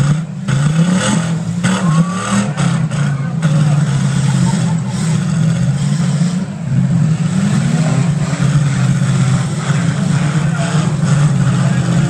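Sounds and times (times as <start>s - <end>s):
car engines running loud: 0.0s - 12.0s
engine revving up: 0.0s - 12.0s.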